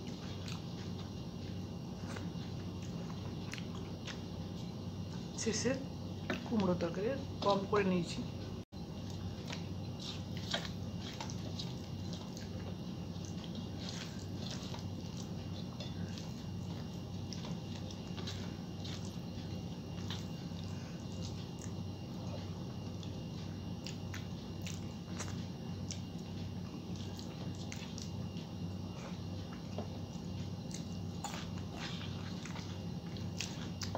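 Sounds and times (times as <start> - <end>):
chewing with wet mouth clicks: 0.0 - 5.2, 8.9 - 33.9.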